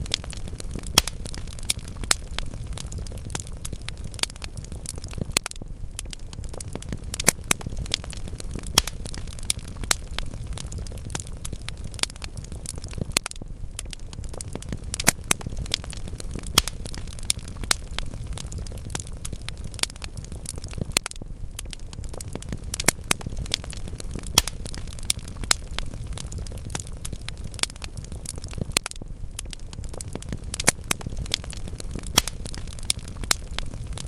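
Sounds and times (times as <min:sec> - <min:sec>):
wood fire burning: 0:00.0 - 0:34.0.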